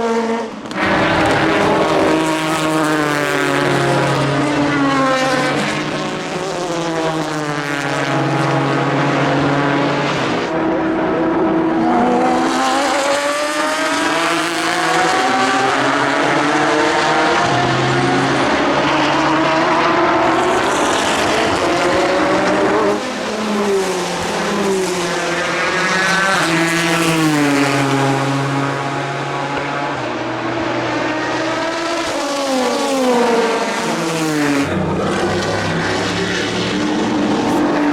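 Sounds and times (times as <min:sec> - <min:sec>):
race car engines passing: 0:00.0 - 0:37.9.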